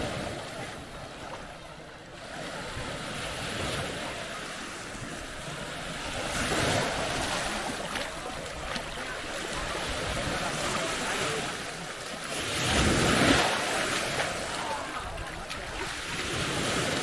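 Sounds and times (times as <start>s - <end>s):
waves washing up sandy shore: 0.0s - 17.0s.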